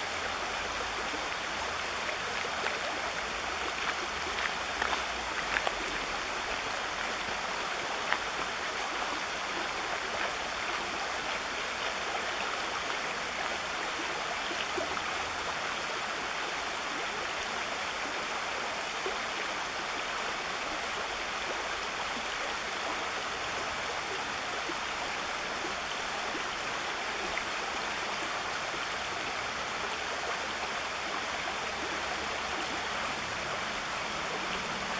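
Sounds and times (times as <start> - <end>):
stream flowing over stones: 0.0 - 34.9.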